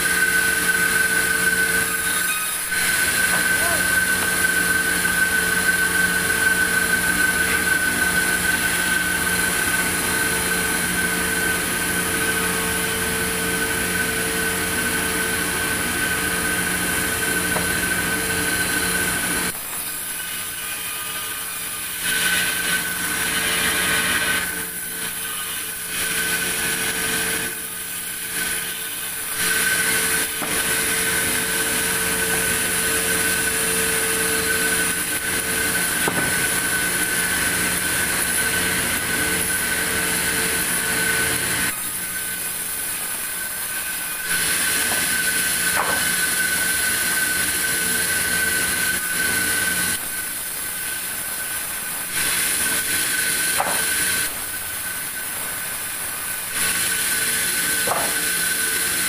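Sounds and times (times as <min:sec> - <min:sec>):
band saw mill whining: 0:00.0 - 0:59.0.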